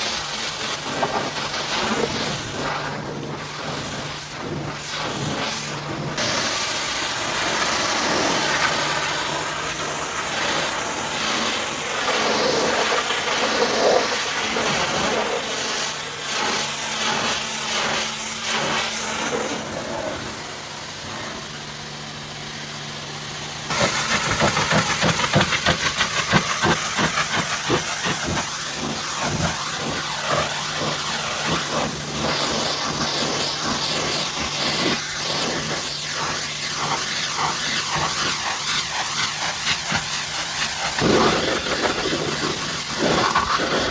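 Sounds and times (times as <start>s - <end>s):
pressure washer spraying water: 0.0s - 43.9s.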